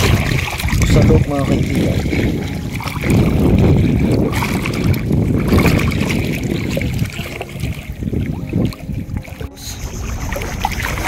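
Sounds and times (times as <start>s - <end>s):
seawater sloshing and splashing: 0.0s - 11.0s
wind buffeting microphone: 0.0s - 11.0s.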